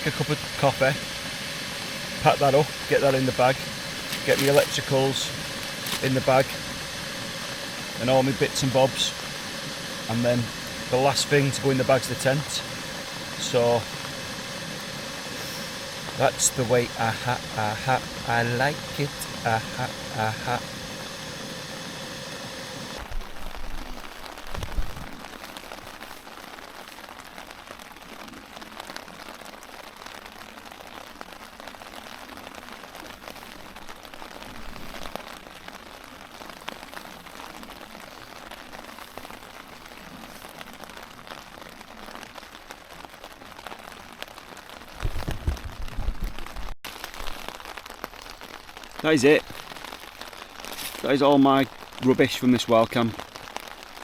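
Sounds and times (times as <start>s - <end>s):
rain drops tapping: 0.0s - 54.0s.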